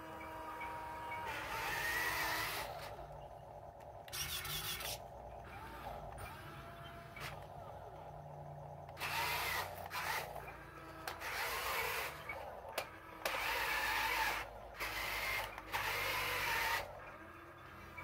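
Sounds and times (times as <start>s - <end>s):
toy electric motor whining: 0.0s - 18.0s.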